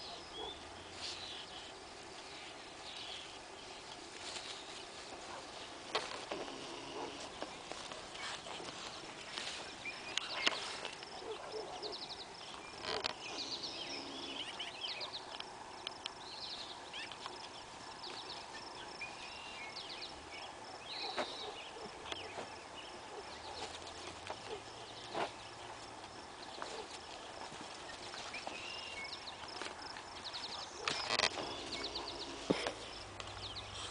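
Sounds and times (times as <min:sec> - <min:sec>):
outdoor ambience: 0:00.0 - 0:33.9
small birds chirping: 0:00.0 - 0:33.9
puppy rustling through plants: 0:00.4 - 0:15.4, 0:16.5 - 0:33.9.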